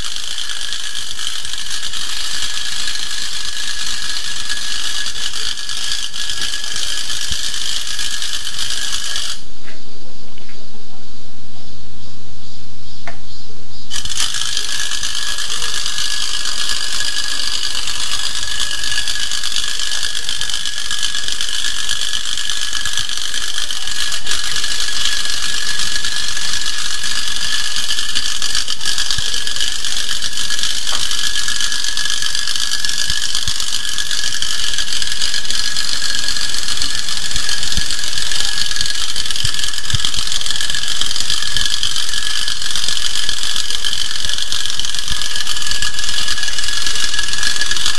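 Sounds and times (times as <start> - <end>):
clockwork toy motor whirring: 0.0 - 9.5, 13.9 - 47.9.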